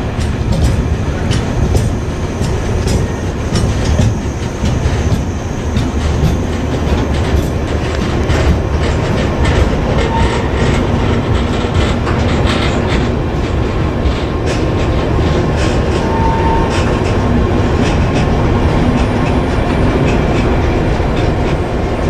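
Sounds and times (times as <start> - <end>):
train wheels clacking over rail joints: 0.0 - 22.0.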